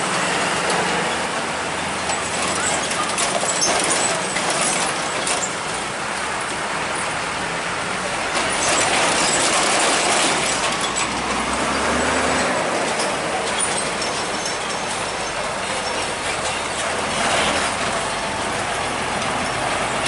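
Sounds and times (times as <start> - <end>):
heavy trucks passing: 0.0 - 20.0.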